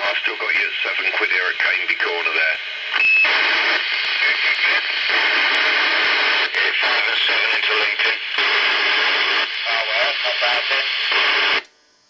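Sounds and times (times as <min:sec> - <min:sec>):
distant voice over radio: 0:00.0 - 0:02.9, 0:03.6 - 0:11.4
radio hiss: 0:00.0 - 0:11.6.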